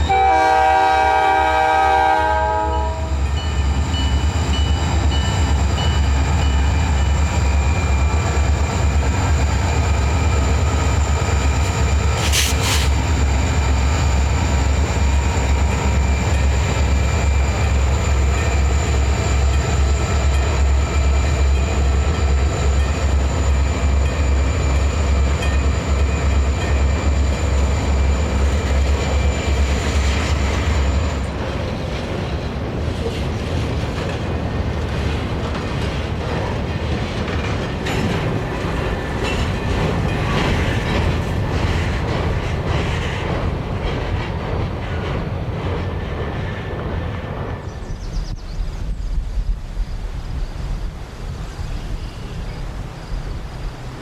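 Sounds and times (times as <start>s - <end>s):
diesel locomotive engine rumble: 0.0s - 54.0s
train wheels clacking over rail joints: 3.3s - 47.6s.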